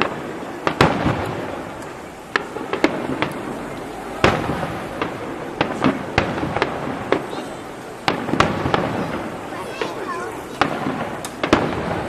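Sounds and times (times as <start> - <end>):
fireworks bangs with rumbling echo: 0.0 - 12.0.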